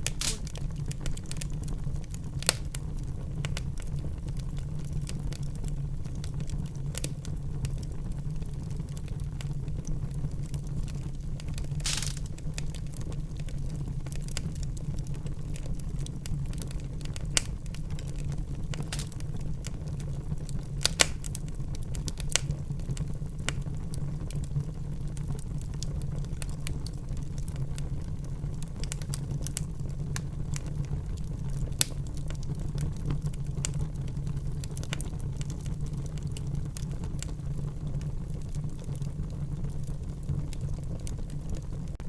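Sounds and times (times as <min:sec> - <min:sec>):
fire crackles and pops: 0:00.0 - 0:42.0
low rumble of flames: 0:00.0 - 0:42.0.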